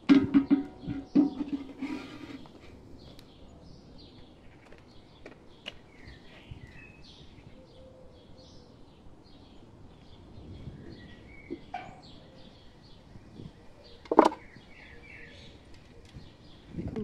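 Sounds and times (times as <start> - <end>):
small birds chirping: 0.4 - 17.0.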